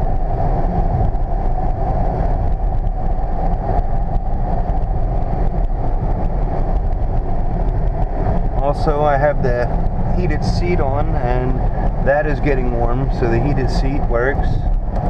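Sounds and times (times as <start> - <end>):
air and tyre noise: 0.0 - 15.0
car cabin engine and road rumble: 0.0 - 15.0.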